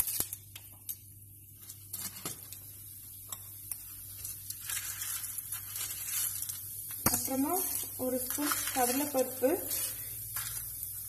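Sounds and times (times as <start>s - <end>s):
oil sizzling in a frying pan: 0.0s - 11.0s
small pops and crackles: 0.0s - 11.0s.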